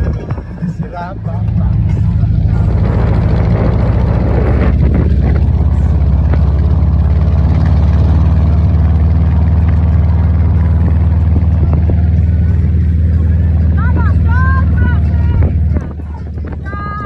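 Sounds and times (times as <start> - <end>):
dune buggy engine drone: 0.0 - 17.0
rushing wind: 0.0 - 17.0.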